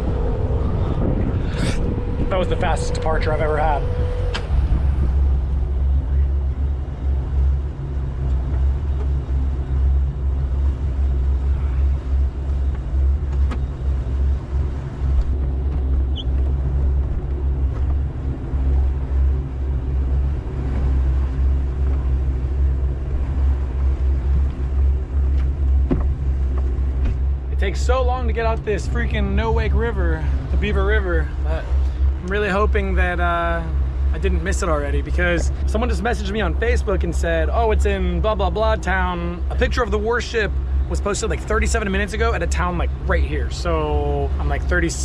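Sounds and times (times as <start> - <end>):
motorboat engine droning: 0.0 - 45.0.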